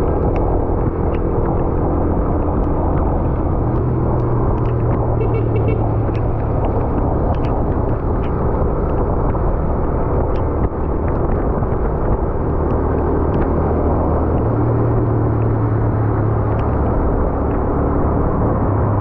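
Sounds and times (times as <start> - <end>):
road and wind noise: 0.0 - 19.0
vehicle engine humming: 0.0 - 19.0.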